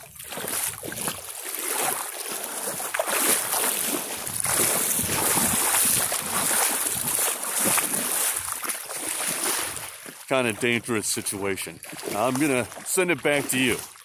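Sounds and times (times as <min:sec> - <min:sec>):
floodwater rushing against legs: 0:00.0 - 0:14.0.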